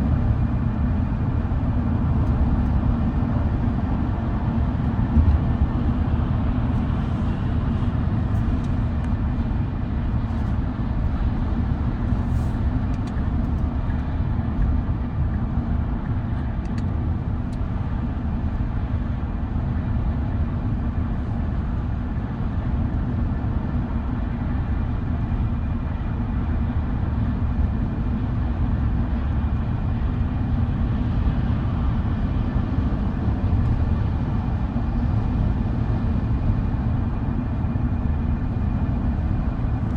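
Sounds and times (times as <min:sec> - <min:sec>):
road rumble inside car: 0:00.0 - 0:39.9.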